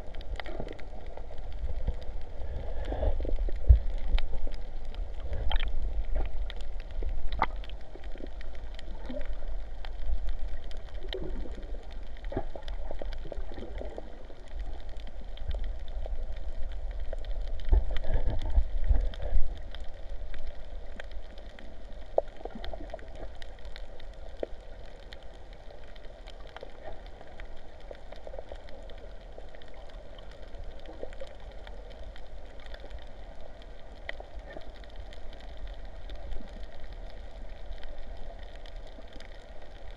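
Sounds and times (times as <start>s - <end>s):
sea water gurgling and sloshing: 0.0s - 39.9s.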